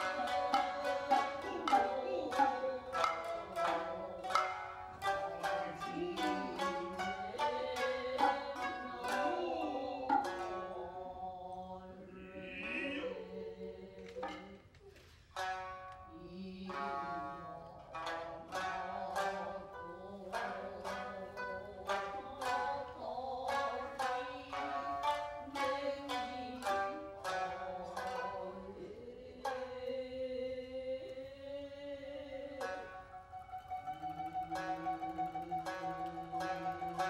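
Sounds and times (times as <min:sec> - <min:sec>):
person singing: 0:00.0 - 0:14.6, 0:16.1 - 0:37.0
shamisen plucking: 0:00.0 - 0:31.4, 0:32.0 - 0:37.0.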